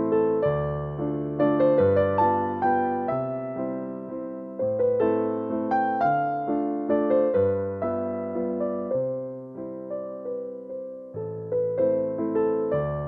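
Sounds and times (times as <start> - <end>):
gentle slow piano music: 0.0 - 13.0.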